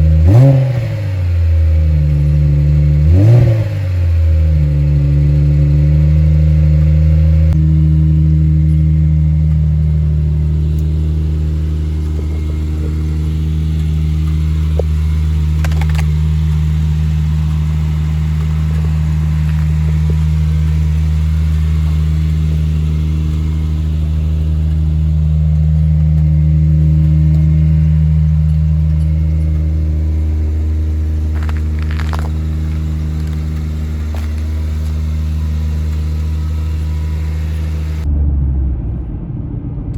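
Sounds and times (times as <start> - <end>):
car engine drone: 0.0 - 39.9.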